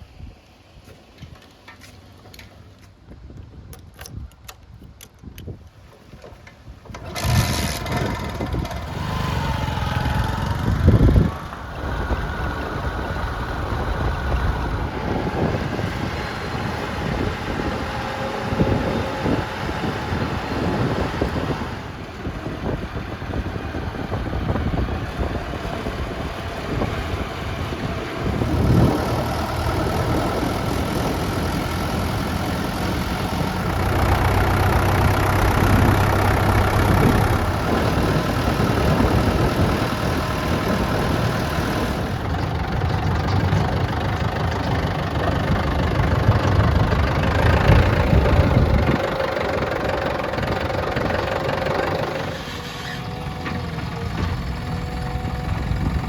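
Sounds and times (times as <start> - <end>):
diesel engine of earthmoving machinery: 5.6 - 56.0.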